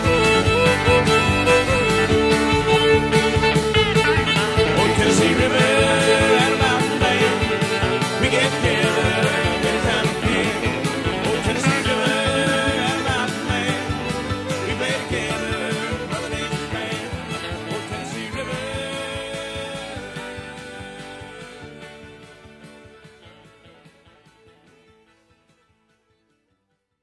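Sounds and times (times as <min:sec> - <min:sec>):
country music with guitar: 0:00.0 - 0:26.6.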